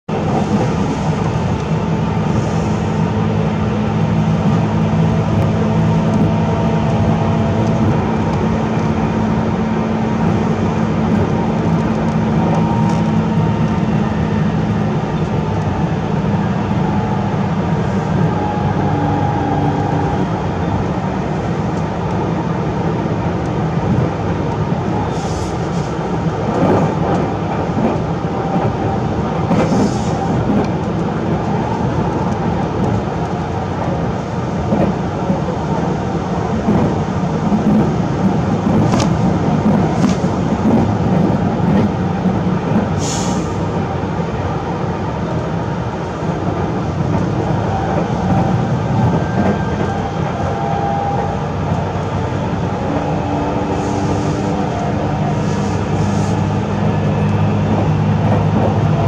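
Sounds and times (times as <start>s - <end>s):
train wheels rumbling on rails: 0.1s - 59.0s.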